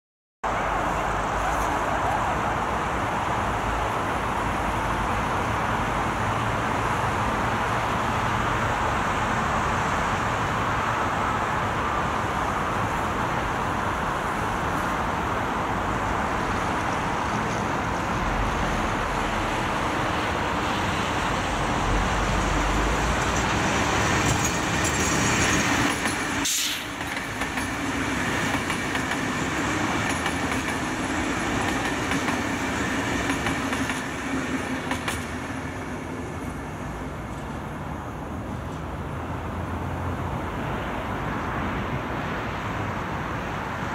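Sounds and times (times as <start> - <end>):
train wheels on rail: 0.5 - 43.9.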